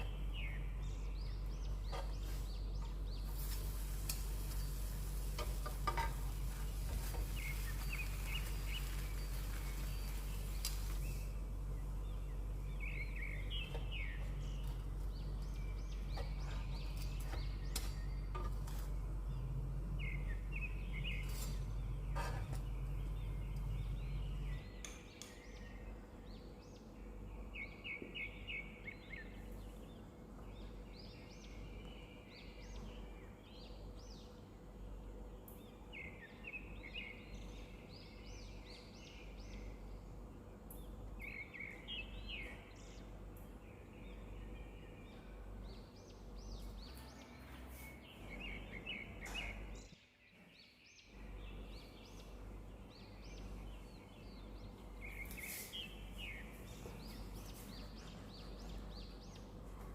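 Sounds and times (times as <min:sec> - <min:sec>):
low steady hum: 0:00.0 - 0:59.9
small birds chirping: 0:00.0 - 0:59.9.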